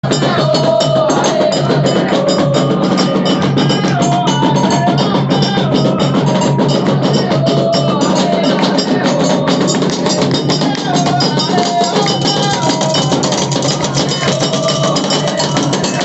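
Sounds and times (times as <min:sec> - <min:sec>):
fast dense drumming: 0:00.0 - 0:16.0.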